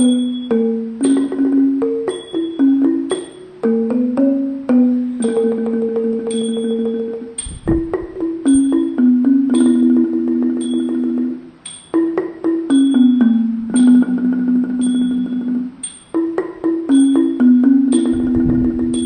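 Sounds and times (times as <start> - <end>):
tuned mallet percussion notes: 0.0 - 19.0.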